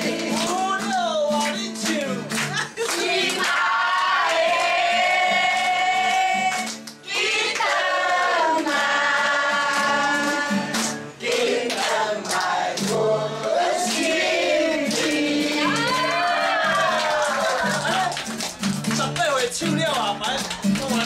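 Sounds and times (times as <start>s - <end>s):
group clapping along: 0.0s - 21.0s.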